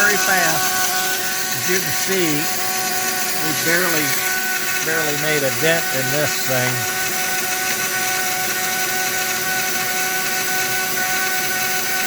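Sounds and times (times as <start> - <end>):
mill spindle whining: 0.0 - 12.0.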